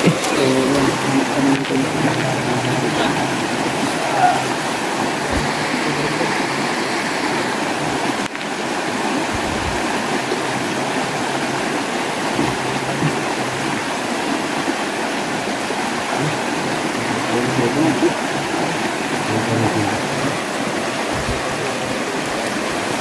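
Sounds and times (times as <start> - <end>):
stream flowing over stones: 0.0 - 23.0.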